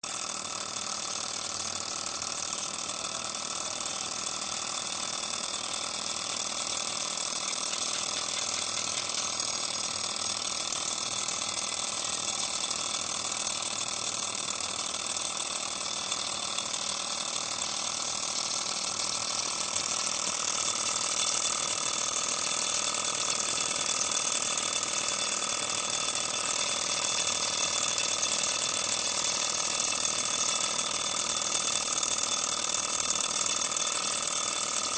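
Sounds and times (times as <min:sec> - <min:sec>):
small engine mechanical clatter: 0:00.0 - 0:34.9.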